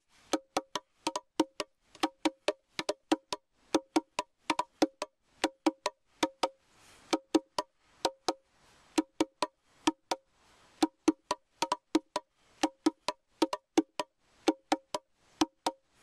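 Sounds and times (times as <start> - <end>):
box bongo hand strikes: 0.3 - 8.4, 9.0 - 10.2, 10.8 - 15.8.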